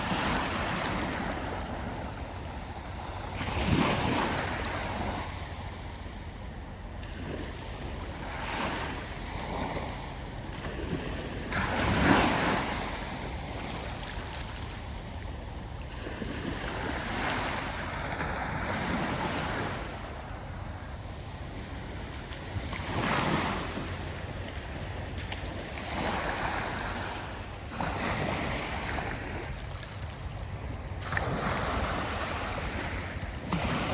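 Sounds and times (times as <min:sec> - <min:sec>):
sea waves breaking on shore: 0:00.0 - 0:33.9.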